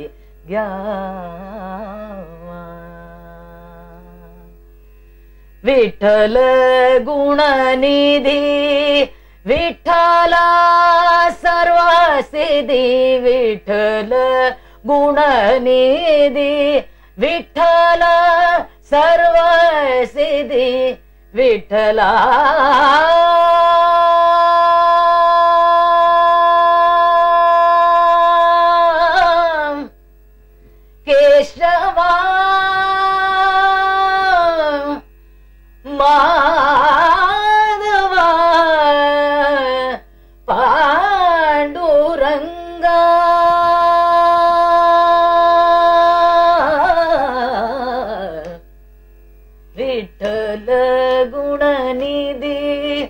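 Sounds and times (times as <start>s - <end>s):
woman singing: 0.0s - 4.6s, 5.6s - 30.0s, 31.0s - 35.1s, 35.8s - 48.6s, 49.7s - 53.0s
faint steady drone: 0.0s - 53.0s.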